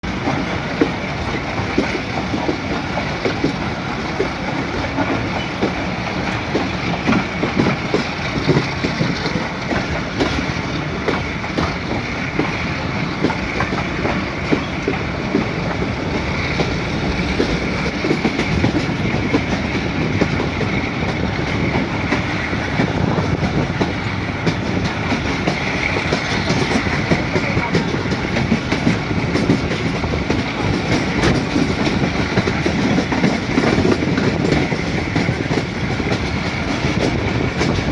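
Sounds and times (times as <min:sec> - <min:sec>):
train rumble: 0:00.0 - 0:37.9
wheels clacking over rail joints: 0:00.0 - 0:37.9.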